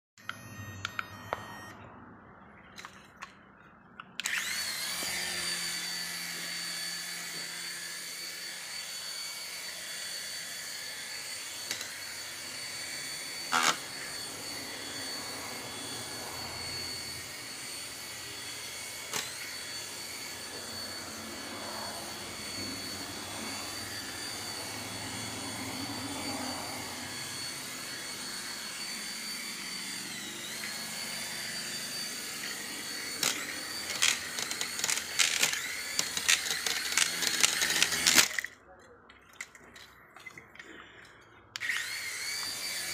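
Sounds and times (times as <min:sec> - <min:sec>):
toy helicopter motor whine: 0:00.2 - 0:01.8, 0:04.2 - 0:38.6, 0:39.4 - 0:42.9.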